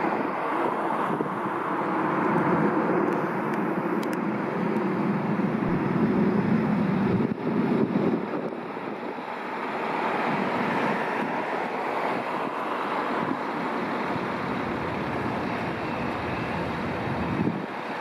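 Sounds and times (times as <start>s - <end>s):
street traffic rushing: 0.0s - 18.0s.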